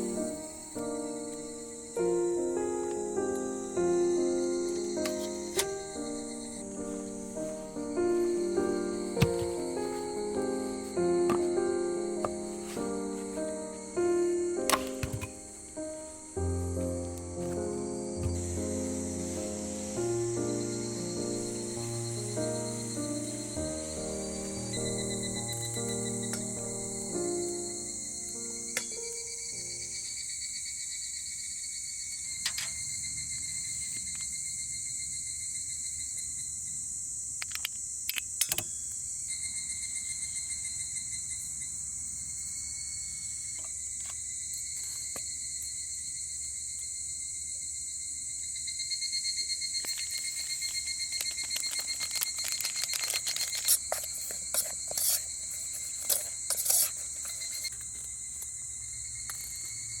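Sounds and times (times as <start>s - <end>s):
insects chirring: 0.0s - 60.0s.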